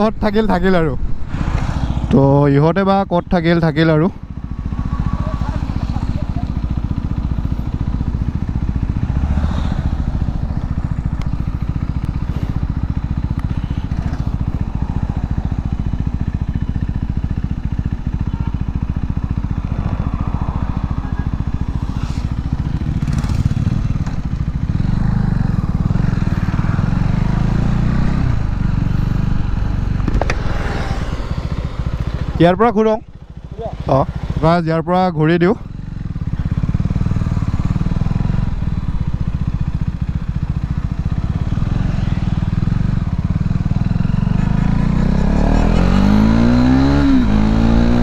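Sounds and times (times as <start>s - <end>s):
motorcycle engine running hard: 0.0s - 48.0s.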